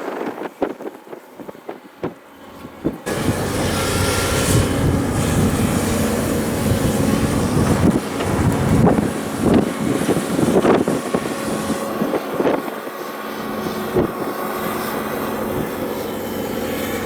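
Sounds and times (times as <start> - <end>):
diesel machinery running: 2.4 - 17.0.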